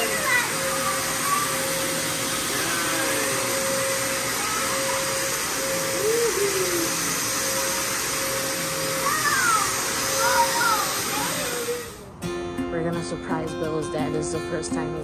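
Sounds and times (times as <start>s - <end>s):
vacuum cleaner running on carpet: 0.0s - 12.0s.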